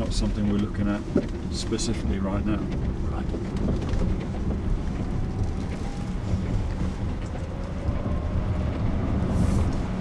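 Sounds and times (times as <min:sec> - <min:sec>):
road and tyre rumble: 0:00.0 - 0:10.0.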